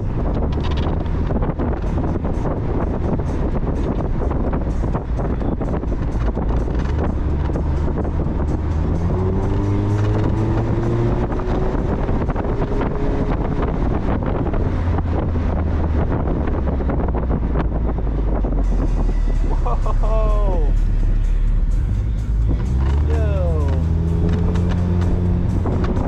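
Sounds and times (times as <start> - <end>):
car engine accelerating: 0.0 - 26.0
road and wind noise: 0.0 - 26.0.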